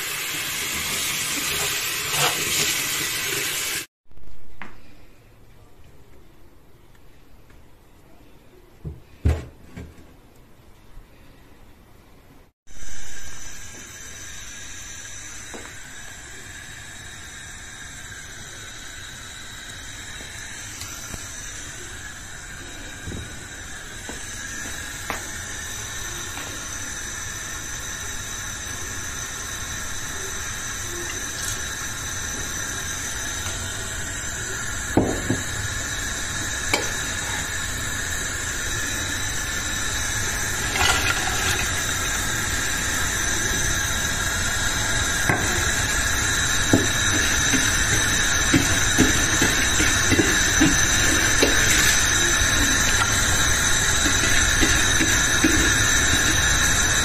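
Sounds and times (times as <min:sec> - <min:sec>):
kitchen appliances whining: 0:00.0 - 0:03.9, 0:12.7 - 0:57.0.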